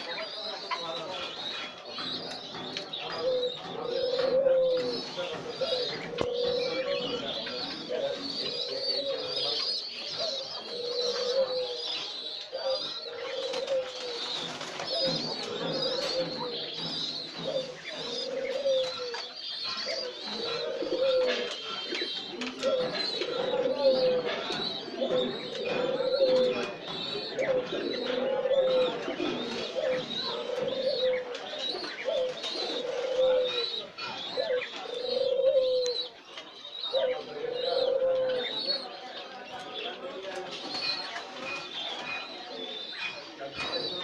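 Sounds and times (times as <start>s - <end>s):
pigeons cooing: 0.0s - 44.0s
small birds twittering: 0.0s - 44.0s.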